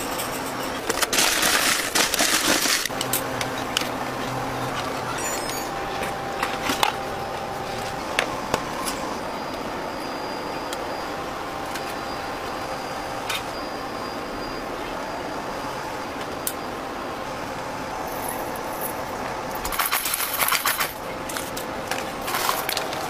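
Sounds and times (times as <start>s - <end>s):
ventilation hum: 0.0s - 23.0s.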